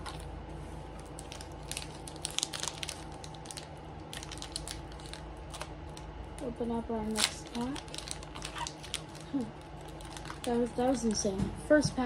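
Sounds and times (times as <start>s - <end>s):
cards and foil pack crinkling: 0.0s - 11.4s
low steady hum: 0.0s - 12.0s.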